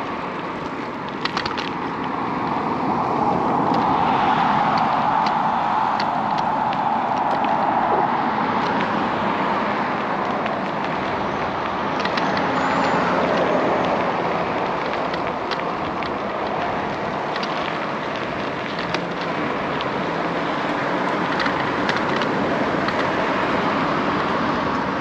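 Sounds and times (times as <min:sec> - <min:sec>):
road traffic rushing: 0:00.0 - 0:25.0
wind noise: 0:00.0 - 0:25.0.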